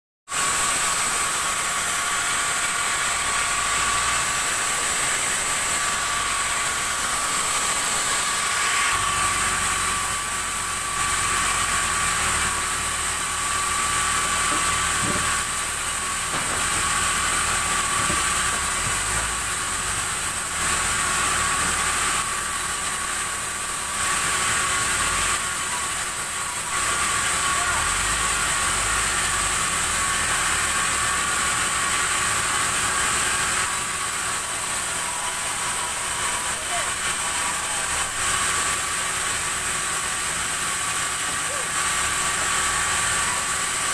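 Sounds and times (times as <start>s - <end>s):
sawmill saw whining: 0.3s - 43.9s.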